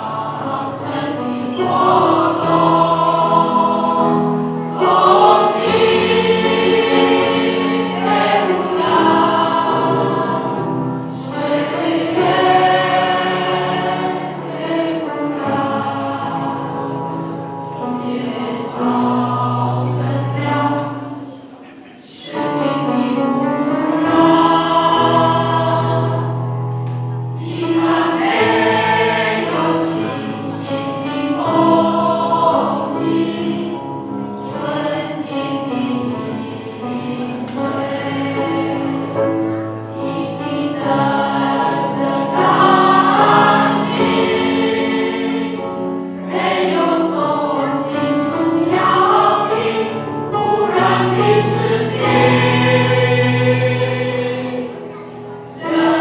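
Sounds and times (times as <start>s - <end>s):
choir singing slow song: 0.0s - 56.0s.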